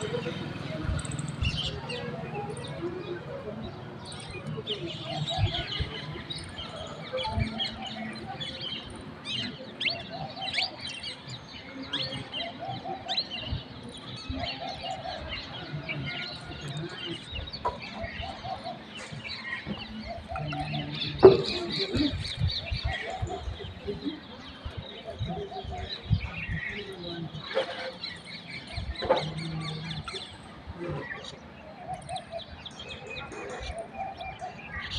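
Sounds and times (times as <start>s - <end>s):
chorus of bird chirps: 0.0s - 34.9s.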